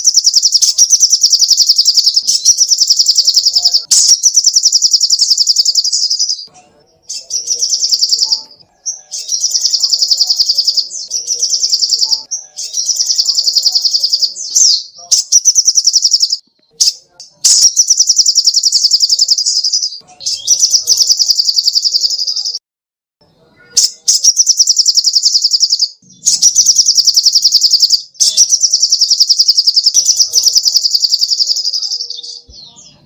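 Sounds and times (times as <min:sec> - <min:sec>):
songbird trilling: 0:00.0 - 0:22.6, 0:23.8 - 0:33.0.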